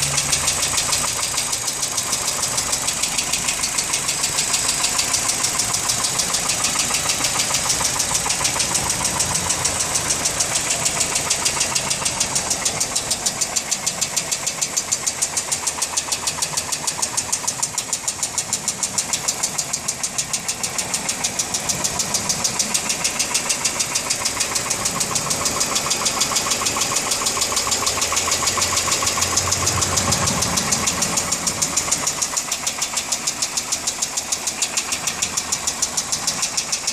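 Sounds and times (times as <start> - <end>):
car engine running: 0.0 - 36.9
fast even engine ticking: 0.0 - 36.9.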